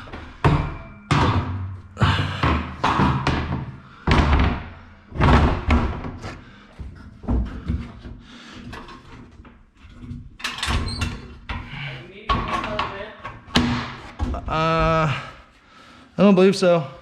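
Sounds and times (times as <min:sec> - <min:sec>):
scaffolding thumps and knocks: 0:00.0 - 0:15.3.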